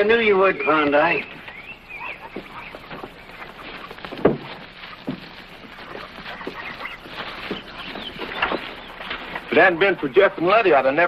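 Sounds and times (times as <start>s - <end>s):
horse hooves stamping: 0.0s - 11.0s
creaking and faint squeaks: 0.7s - 11.0s.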